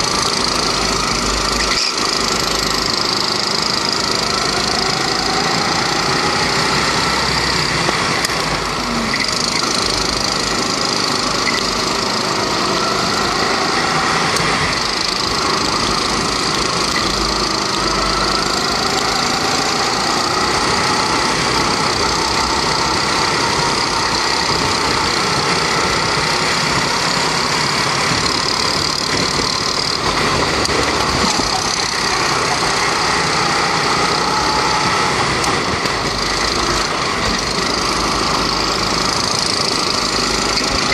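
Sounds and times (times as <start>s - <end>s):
go-kart engine running hard: 0.0s - 40.9s.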